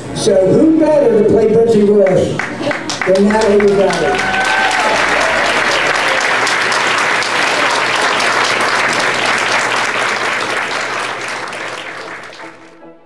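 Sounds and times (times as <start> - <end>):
crowd applauding: 2.0 - 12.9.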